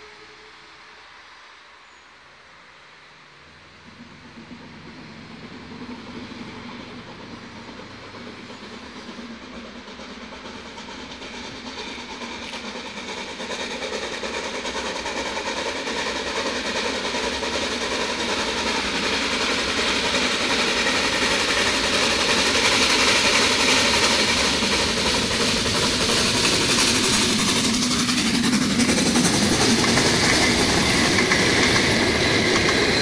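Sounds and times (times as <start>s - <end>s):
steam locomotive passing: 0.0s - 33.0s
train coaches rolling by: 0.0s - 33.0s.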